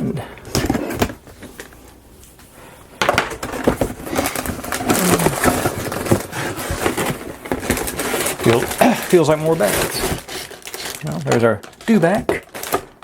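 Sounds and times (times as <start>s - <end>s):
plastic bags rustling: 0.4s - 13.0s.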